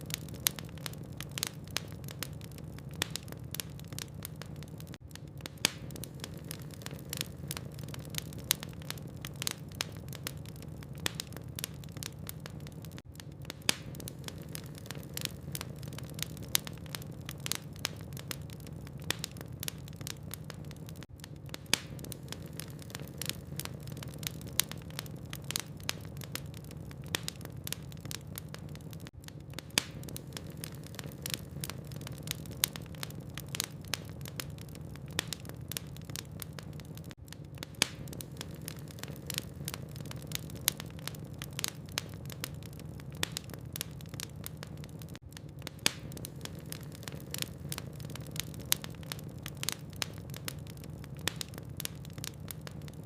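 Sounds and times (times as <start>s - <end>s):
wood logs crackling: 0.0s - 53.0s.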